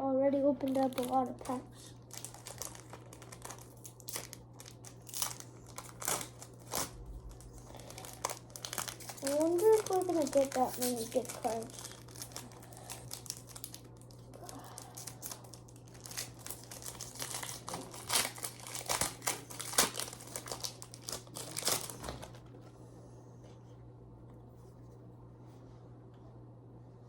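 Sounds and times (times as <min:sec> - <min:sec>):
foil wrapper crinkling and tearing: 0:00.6 - 0:22.5.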